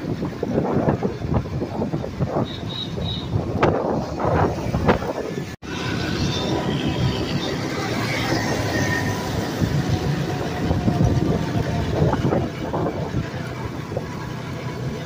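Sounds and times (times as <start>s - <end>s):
engine rumble: 0.0s - 15.0s
wind noise: 0.0s - 15.0s.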